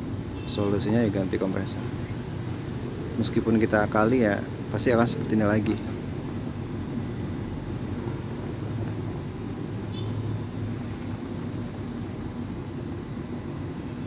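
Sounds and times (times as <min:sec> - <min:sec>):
air conditioner fan humming: 0:00.0 - 0:14.0.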